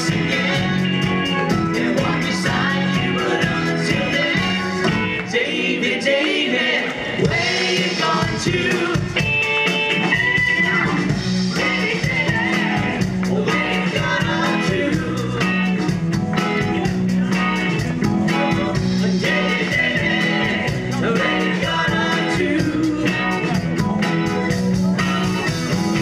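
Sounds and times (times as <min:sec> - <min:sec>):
electric guitar: 0:00.0 - 0:05.4, 0:06.8 - 0:26.0
live rock band: 0:00.0 - 0:26.0.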